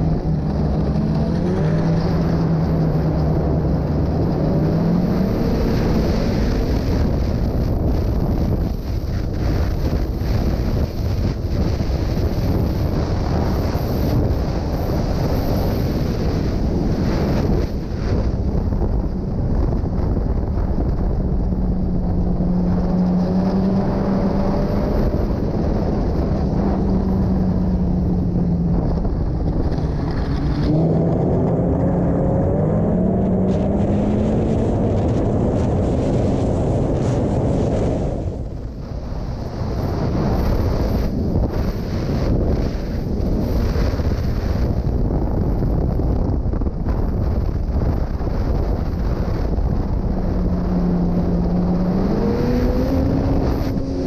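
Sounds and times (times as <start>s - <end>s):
snowmobile engine running hard: 0.0s - 54.0s
wind buffeting microphone: 0.0s - 54.0s.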